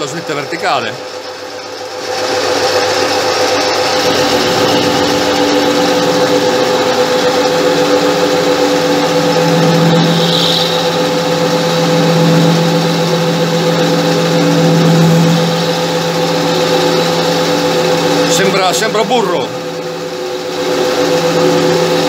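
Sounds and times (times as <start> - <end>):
end mill cutting hum: 0.0 - 22.0
lathe motor whine: 0.0 - 22.0.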